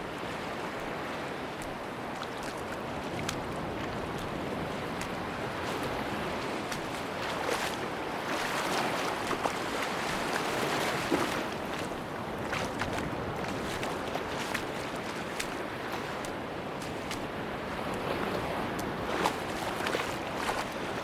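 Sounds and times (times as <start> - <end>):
surf washing onto beach: 0.0 - 21.0
faint splashy clicks: 1.6 - 6.0, 6.7 - 7.8, 8.4 - 20.7.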